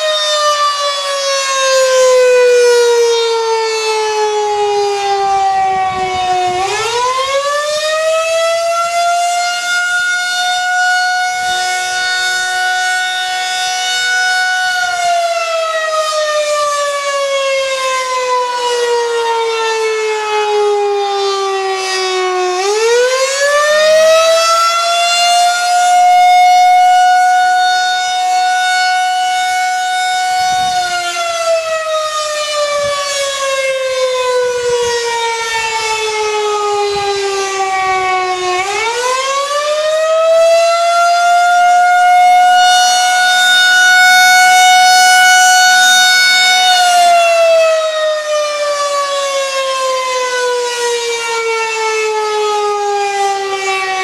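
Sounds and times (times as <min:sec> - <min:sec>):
rotating siren wailing: 0:00.0 - 0:54.0.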